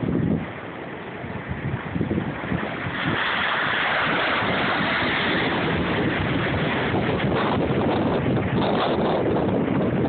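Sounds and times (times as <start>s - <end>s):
ocean surf rushing: 0.0s - 10.0s
wind buffeting microphone: 0.0s - 10.0s.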